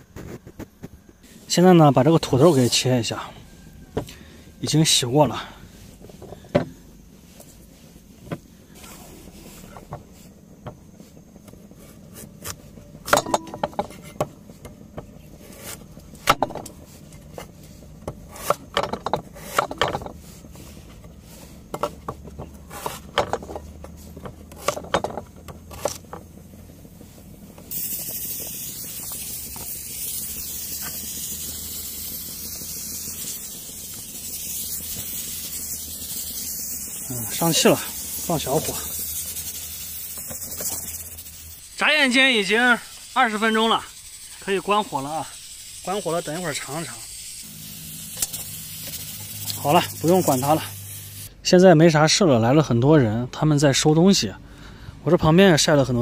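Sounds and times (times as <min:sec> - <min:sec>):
pressure cooker venting steam: 0:00.0 - 0:56.0.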